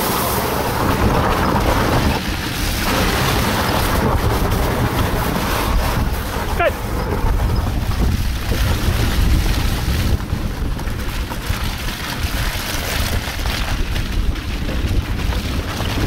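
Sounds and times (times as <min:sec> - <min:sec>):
cart rolling over dirt: 0:00.0 - 0:16.0
wind on microphone: 0:00.0 - 0:16.0.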